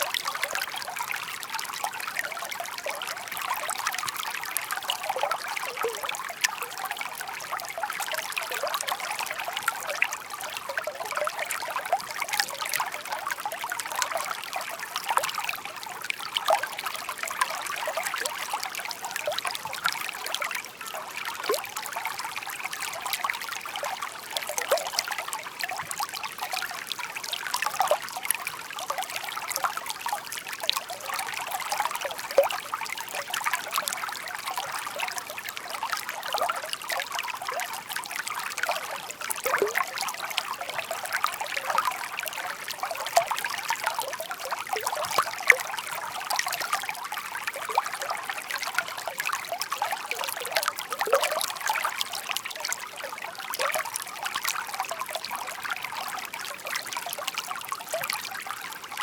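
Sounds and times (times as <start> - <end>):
stream trickling over stones: 0.0 - 59.0.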